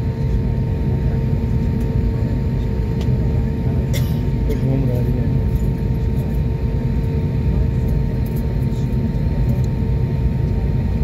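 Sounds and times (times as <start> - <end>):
jet engine hum: 0.0 - 11.0
low rumble of plane rolling: 0.0 - 11.0.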